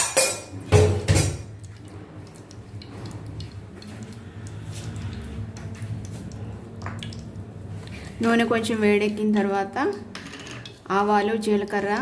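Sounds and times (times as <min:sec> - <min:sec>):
steady low hum: 0:00.4 - 0:10.1.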